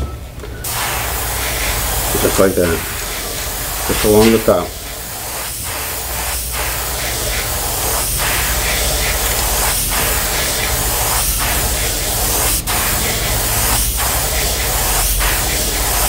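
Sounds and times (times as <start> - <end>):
airbrush spraying hiss: 0.6 - 16.0.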